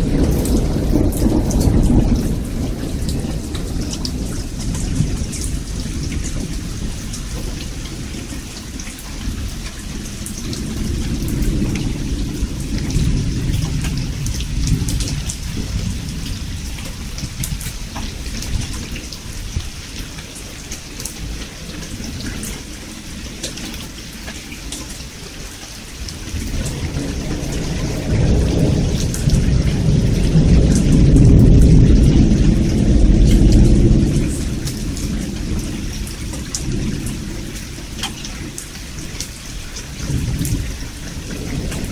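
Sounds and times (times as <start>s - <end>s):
heavy rain: 0.0s - 41.9s
thunder rumbling: 0.0s - 41.9s.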